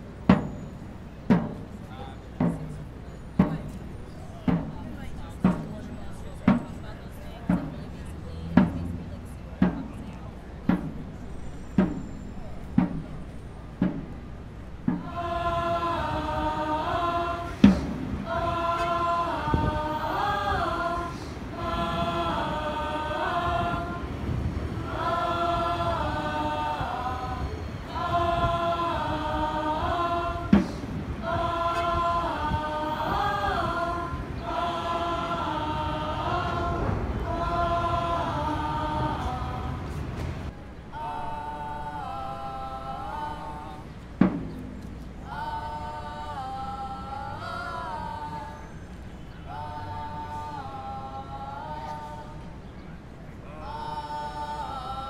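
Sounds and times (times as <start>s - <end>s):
voices chanting in harmony: 0.0s - 55.0s.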